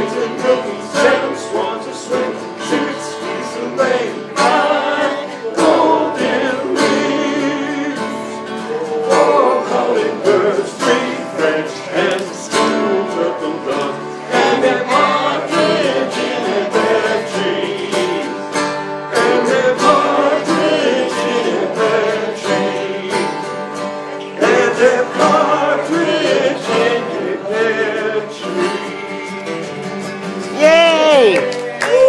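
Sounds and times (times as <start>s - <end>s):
man singing: 0.0s - 18.5s, 19.1s - 23.4s, 24.2s - 32.0s
acoustic guitars strummed: 0.0s - 32.0s.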